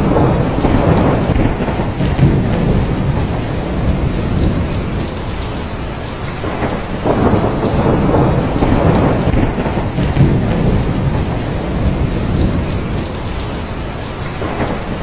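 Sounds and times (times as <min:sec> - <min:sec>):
heavy rain: 0:00.0 - 0:15.0
low rolling thunder: 0:00.0 - 0:15.0.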